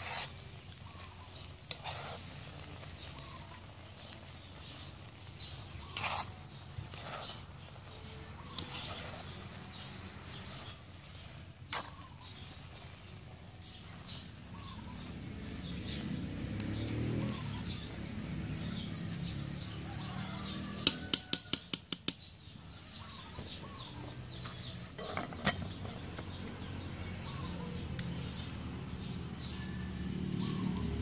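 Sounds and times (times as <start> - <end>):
metal spoon stirring rice in pot: 0.0 - 30.9
birds chirping: 0.0 - 31.0.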